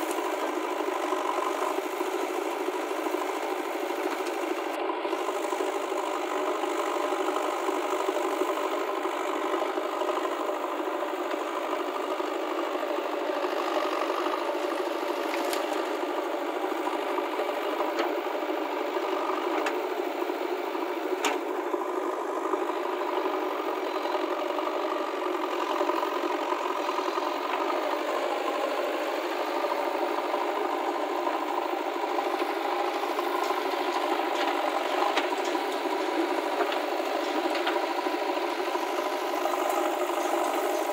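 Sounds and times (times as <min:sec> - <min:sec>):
backhoe digging and loading earth: 0:00.0 - 0:40.9
diesel engines running: 0:00.0 - 0:40.9.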